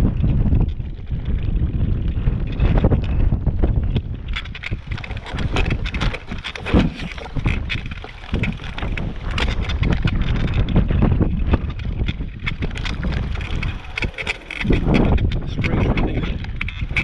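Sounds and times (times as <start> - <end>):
bike frame rattling: 0.0 - 17.0
bike rolling over rough track: 0.0 - 17.0
wind buffeting microphone: 0.0 - 17.0.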